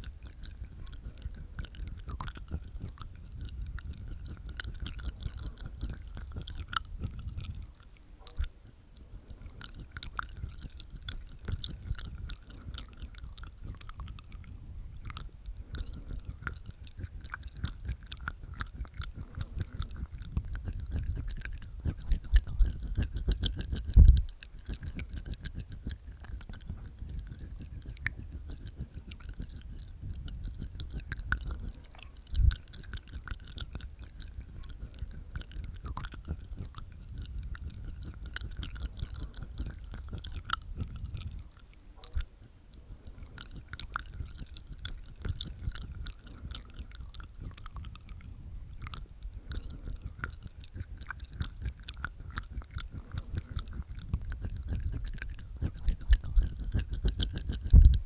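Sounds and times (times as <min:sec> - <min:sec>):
wet tongue clicks: 0:00.0 - 0:58.0.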